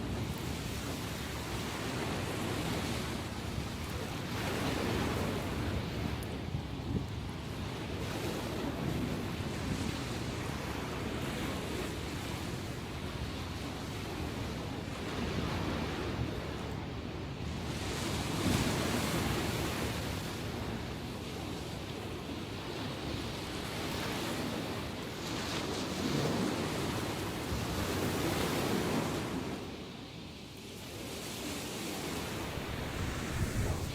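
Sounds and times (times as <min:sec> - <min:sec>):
waves breaking on shore: 0:00.0 - 0:33.9.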